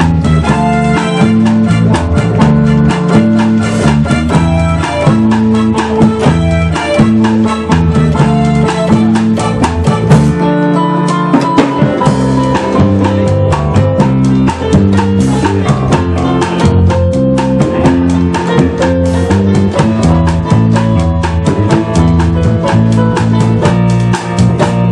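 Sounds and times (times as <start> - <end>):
band playing instrumental: 0.0 - 24.9
drum kit beat: 0.0 - 24.9.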